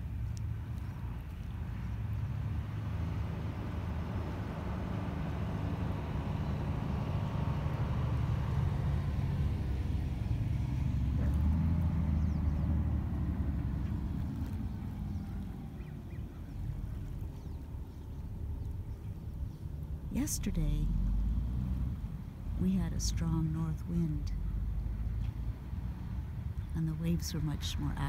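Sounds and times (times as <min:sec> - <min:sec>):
car engine passing: 0:01.8 - 0:28.0.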